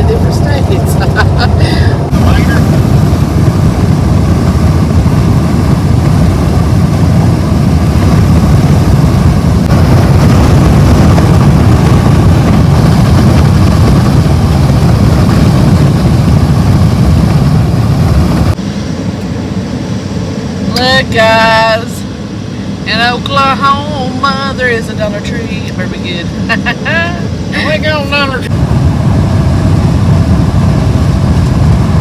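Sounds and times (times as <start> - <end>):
car wind and road noise: 0.0 - 32.0.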